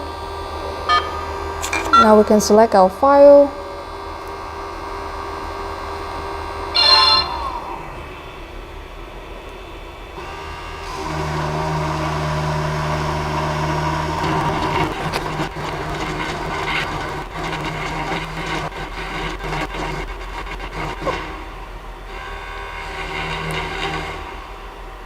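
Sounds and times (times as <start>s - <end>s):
engraver spindle motor humming: 0.0s - 25.0s.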